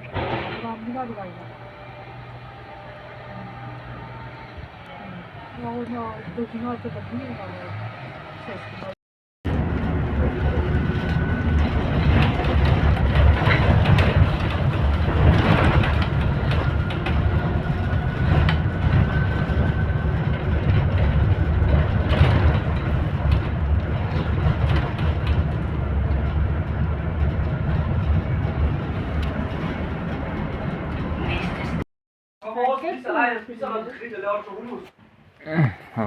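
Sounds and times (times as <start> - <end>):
train rumble: 0.0 - 31.8.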